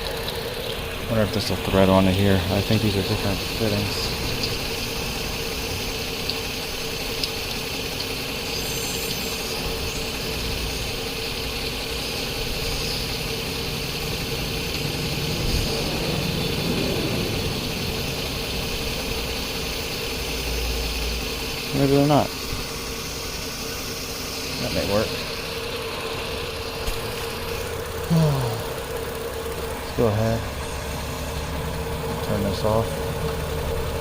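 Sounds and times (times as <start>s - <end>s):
motor humming: 0.0s - 34.0s.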